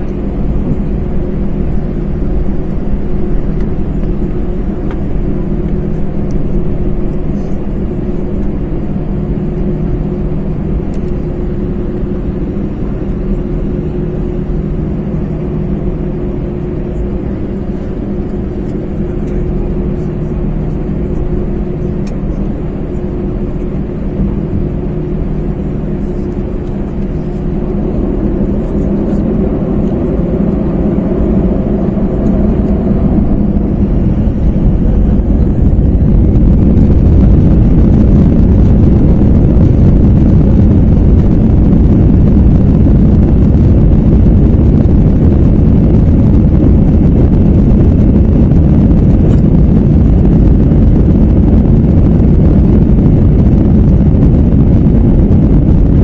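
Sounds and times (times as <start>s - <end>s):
jet engines spooling up: 0.0s - 56.0s.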